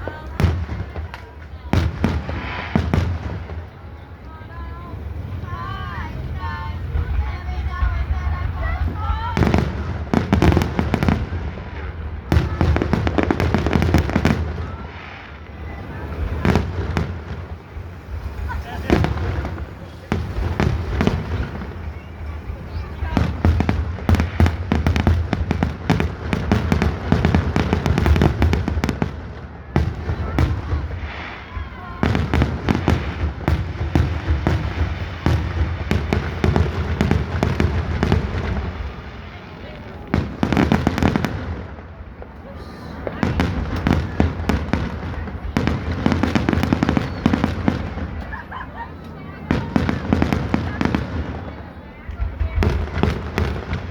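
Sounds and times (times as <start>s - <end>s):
fireworks booming and crackling: 0.0s - 53.9s
firework whistling: 4.6s - 51.5s.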